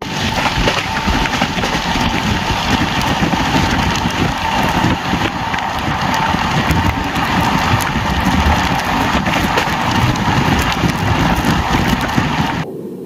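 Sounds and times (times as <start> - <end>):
train wheels rumbling on rails: 0.0 - 12.6
thin steady whine: 0.0 - 13.0.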